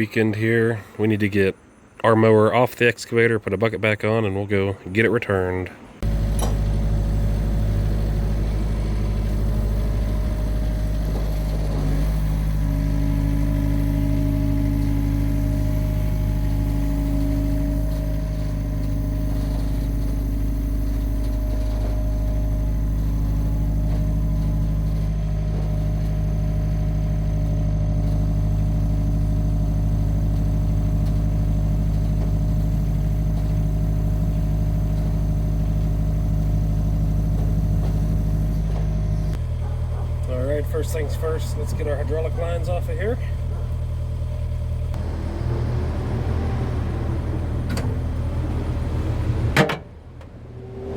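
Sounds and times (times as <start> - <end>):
excavator diesel engine running: 6.0 - 50.9.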